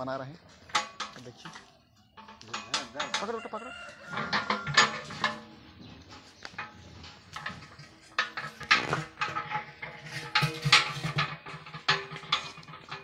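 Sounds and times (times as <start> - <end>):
metal pot knocks and clanks: 0.6 - 13.0.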